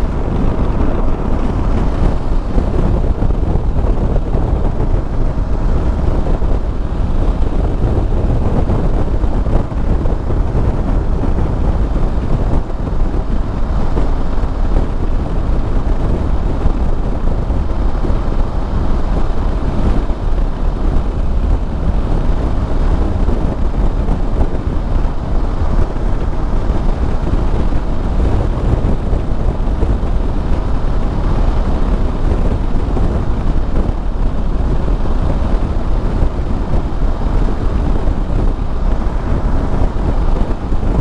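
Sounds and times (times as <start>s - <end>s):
motorcycle engine cruising: 0.0s - 41.0s
road noise: 0.0s - 41.0s
wind buffeting microphone: 0.0s - 41.0s.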